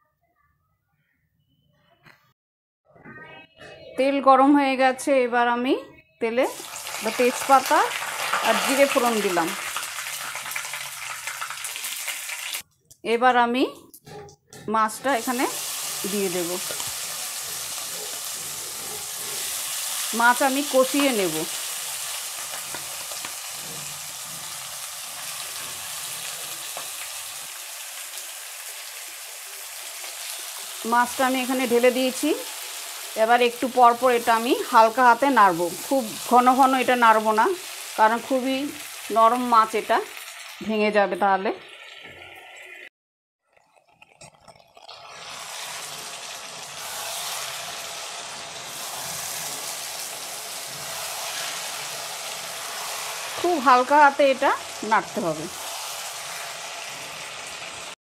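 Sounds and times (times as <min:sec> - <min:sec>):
fish frying in oil: 0:06.5 - 0:12.6, 0:15.2 - 0:40.7, 0:41.7 - 0:58.0.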